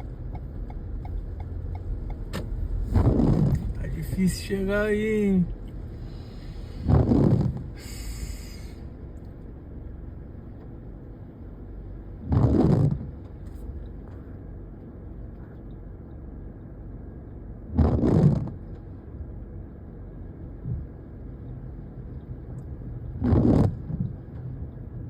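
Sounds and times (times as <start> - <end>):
car road noise: 0.0 - 25.0.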